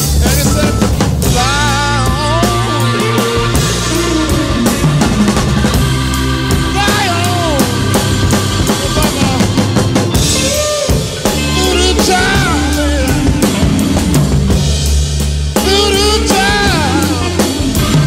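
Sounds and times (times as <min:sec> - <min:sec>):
instrumental rock music: 0:00.0 - 0:18.0
lead instrument sliding notes: 0:00.0 - 0:18.0.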